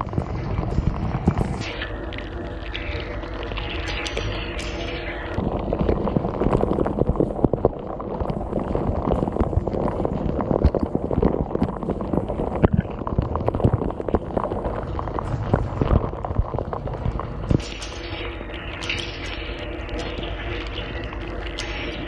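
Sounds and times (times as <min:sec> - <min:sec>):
low pump hum: 0:00.0 - 0:22.0.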